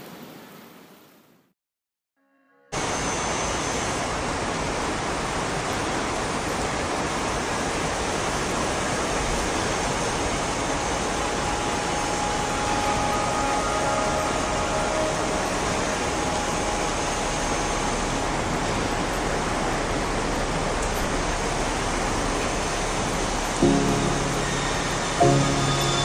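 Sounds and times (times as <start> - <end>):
heavy rain hissing: 2.8 - 26.0.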